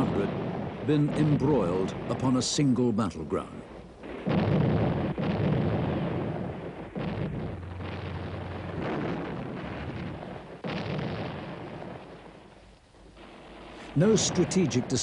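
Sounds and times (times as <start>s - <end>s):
heavy gunfire booms: 0.0s - 15.0s.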